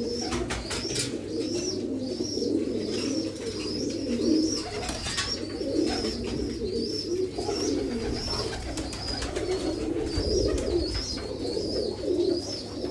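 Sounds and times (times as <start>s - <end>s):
pigeons cooing: 0.0s - 12.9s.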